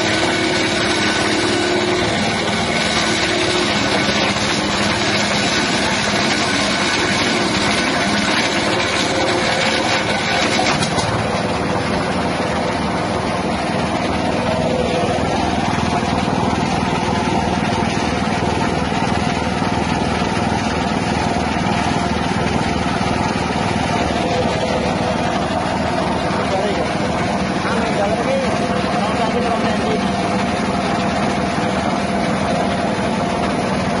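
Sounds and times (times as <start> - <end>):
petrol engine shredder running: 0.0 - 34.0.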